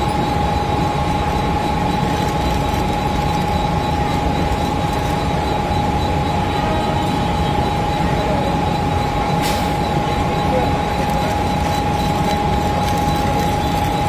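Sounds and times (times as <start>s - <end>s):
electric train hum and whine: 0.0s - 14.0s.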